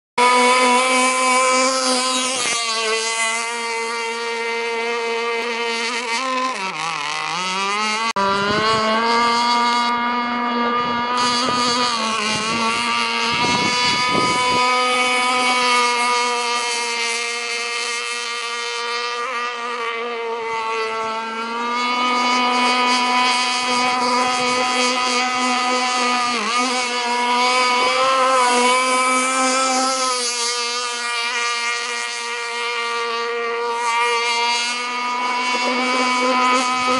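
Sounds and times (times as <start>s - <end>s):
model boat motor whining: 0.2s - 36.9s.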